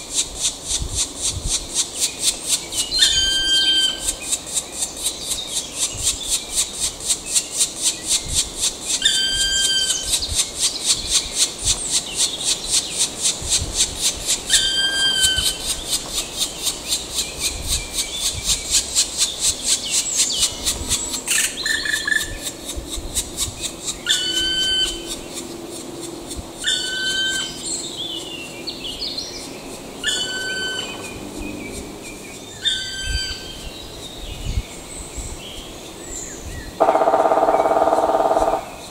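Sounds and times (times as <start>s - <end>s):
woodpecker nestlings chattering: 1.5s - 31.8s, 36.3s - 38.9s.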